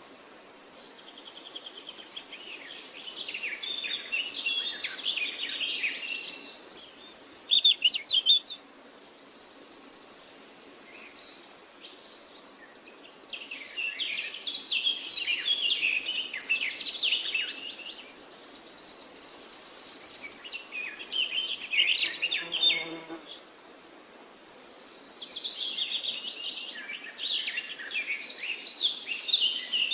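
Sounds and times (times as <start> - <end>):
songbird chirping and trilling: 0.8 - 23.4, 24.2 - 29.9.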